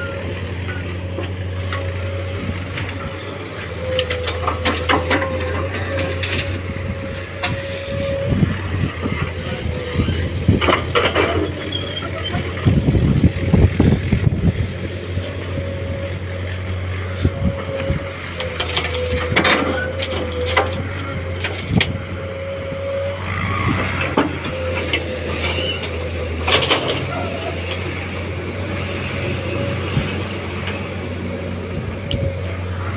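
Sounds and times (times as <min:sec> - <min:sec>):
excavator diesel engine under load: 0:00.0 - 0:32.9.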